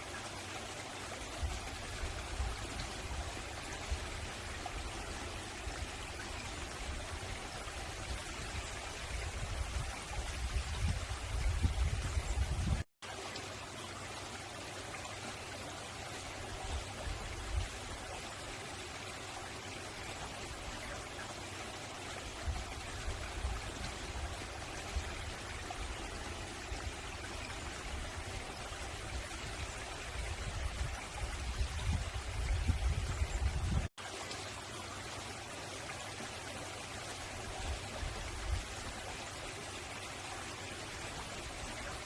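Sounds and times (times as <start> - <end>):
stream flowing over rocks: 0.0 - 42.0.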